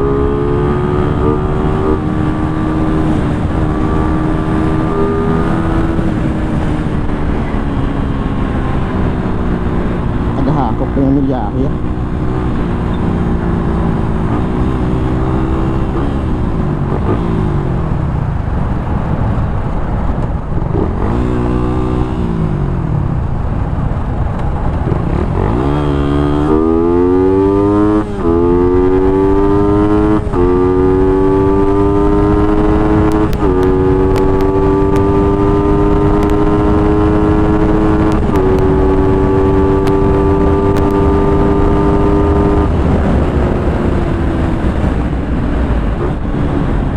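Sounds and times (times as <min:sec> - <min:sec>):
motorcycle engine accelerating: 0:00.0 - 0:46.9
wind rushing past microphone: 0:00.0 - 0:46.9.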